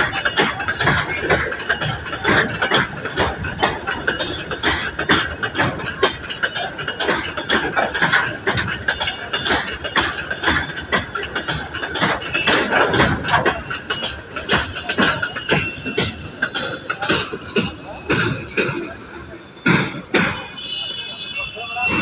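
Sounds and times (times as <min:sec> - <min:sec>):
train wheels clattering over rails: 0:00.0 - 0:22.0.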